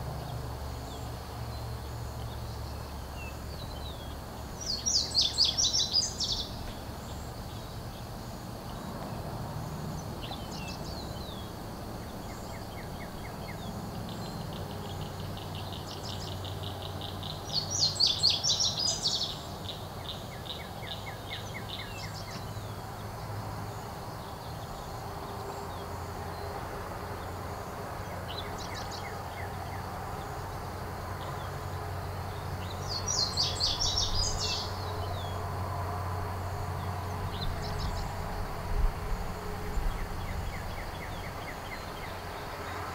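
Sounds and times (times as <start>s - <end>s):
low background noise: 0.0s - 42.9s
songbird singing: 0.0s - 42.9s.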